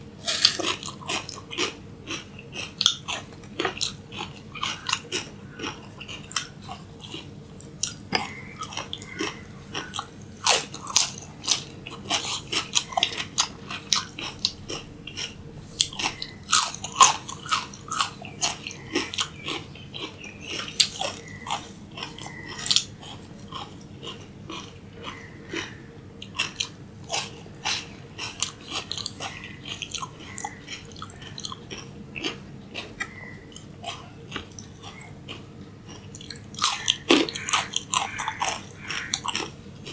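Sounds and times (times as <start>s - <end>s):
crunching raw vegetable sticks: 0.2s - 39.9s.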